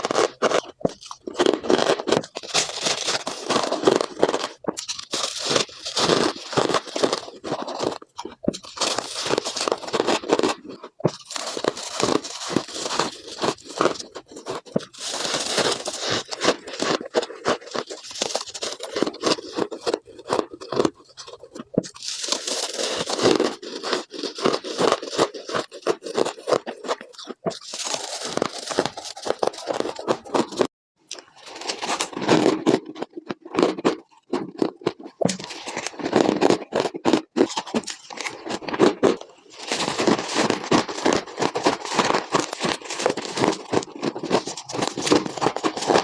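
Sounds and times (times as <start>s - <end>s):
ice being chewed: 0.0s - 46.0s.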